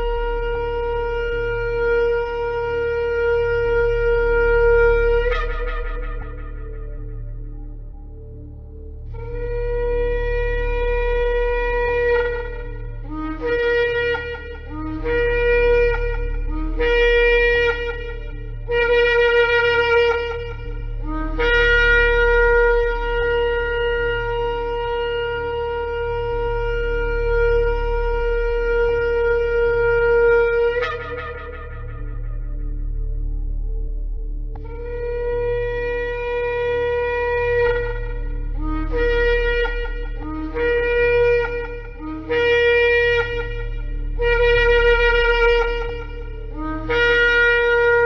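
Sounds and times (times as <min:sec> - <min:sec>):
ram's horn blasts: 0:00.0 - 0:48.0.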